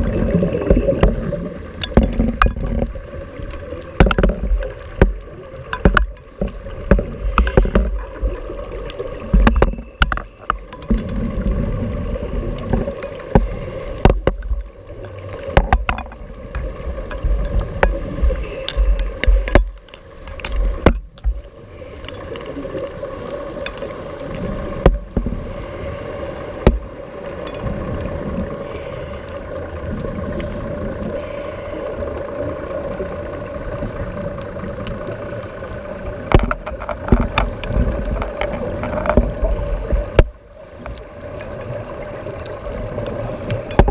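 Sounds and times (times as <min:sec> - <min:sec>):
diver's bubbles rumbling underwater: 0:00.0 - 0:21.6, 0:22.2 - 0:25.6, 0:29.6 - 0:31.2, 0:32.0 - 0:43.9.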